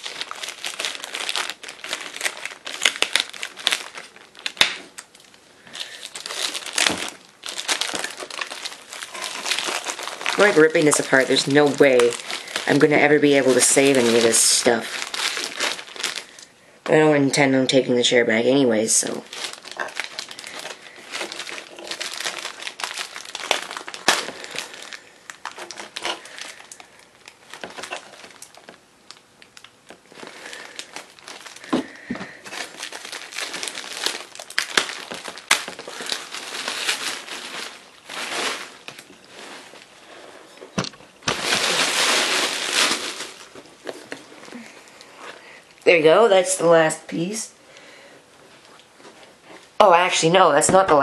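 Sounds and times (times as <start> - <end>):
plastic wrap crinkling and tearing: 0.0 - 16.6, 17.6 - 46.0, 48.2 - 50.2.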